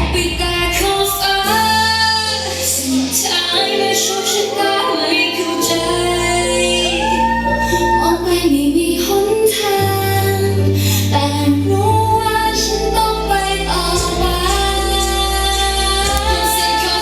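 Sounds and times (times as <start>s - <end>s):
woman singing pop-rock song: 0.0s - 17.0s.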